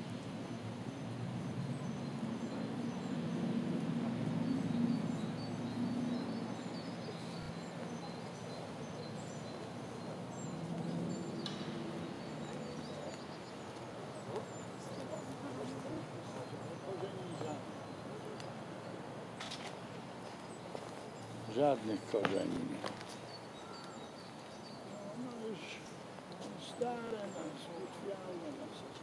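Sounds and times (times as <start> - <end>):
city traffic rumble: 0.0 - 29.0
small birds chirping: 0.0 - 29.0.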